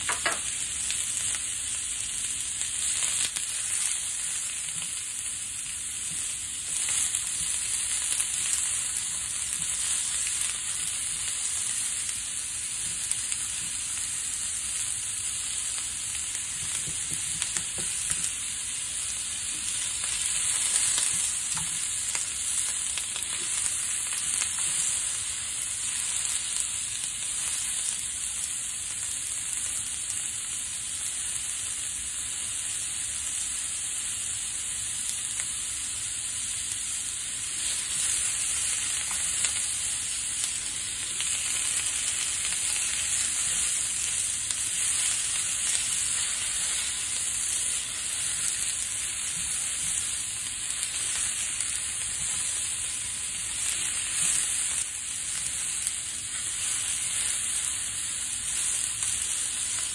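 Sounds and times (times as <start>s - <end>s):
onions and sausages sizzling: 0.0s - 59.9s.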